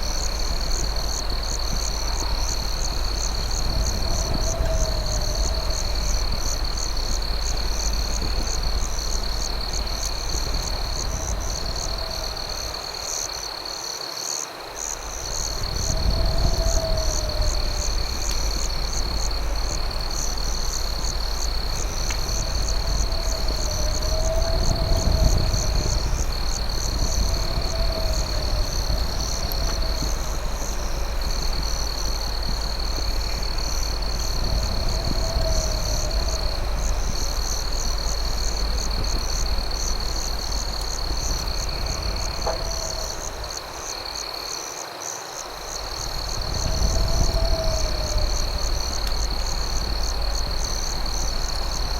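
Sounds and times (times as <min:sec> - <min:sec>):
campfire rumble and crackle: 0:00.0 - 0:51.9
crickets trilling: 0:00.0 - 0:51.9
low wavering insect call: 0:00.0 - 0:51.9.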